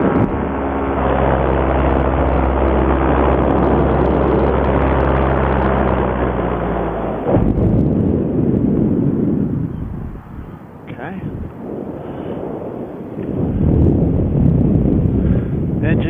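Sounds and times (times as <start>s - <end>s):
paramotor engine and propeller: 0.0s - 16.0s
rough rushing noise: 0.0s - 16.0s.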